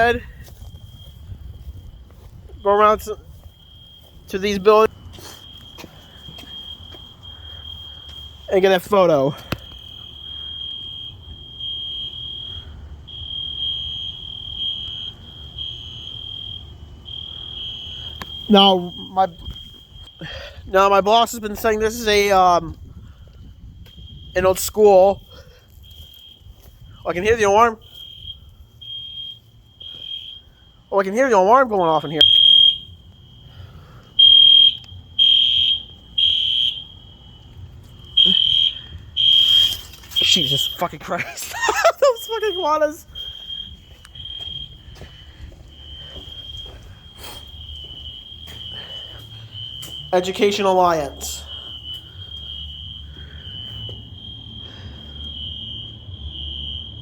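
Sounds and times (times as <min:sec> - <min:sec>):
fire alarm electronic tone: 0:00.0 - 0:57.0.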